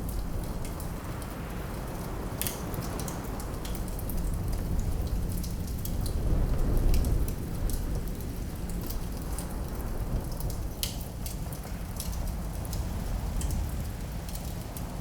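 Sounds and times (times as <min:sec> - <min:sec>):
low rumble of wind: 0:00.0 - 0:15.0.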